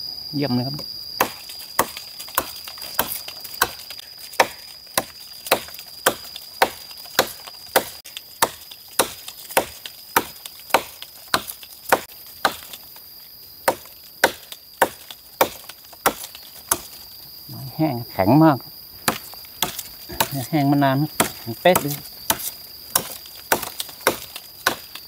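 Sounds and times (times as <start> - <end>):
wood being chopped: 1.2 - 13.0, 13.6 - 17.0, 19.0 - 25.0.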